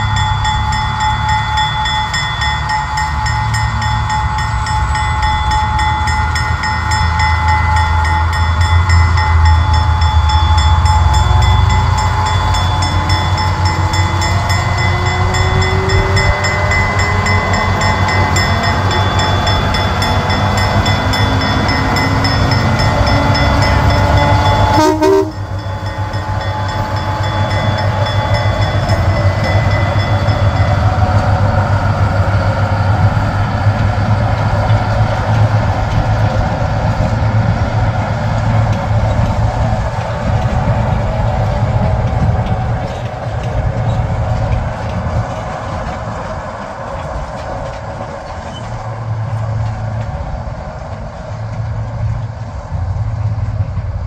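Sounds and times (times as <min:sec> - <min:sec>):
diesel locomotive engine: 0:00.0 - 0:54.0
train rolling: 0:00.0 - 0:54.0.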